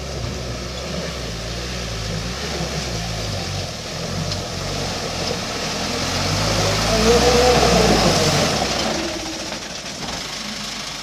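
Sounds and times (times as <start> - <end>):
truck engine running under load: 0.0 - 11.0.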